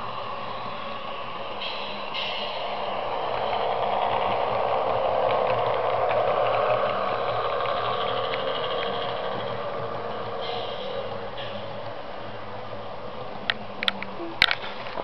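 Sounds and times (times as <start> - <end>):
model train rattling whirr: 0.0 - 15.0.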